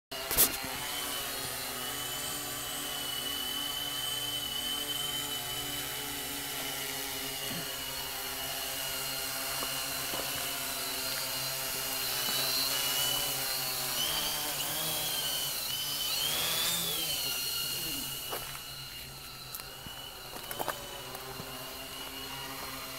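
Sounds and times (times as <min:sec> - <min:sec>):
drone motors whining: 0:00.1 - 0:22.9.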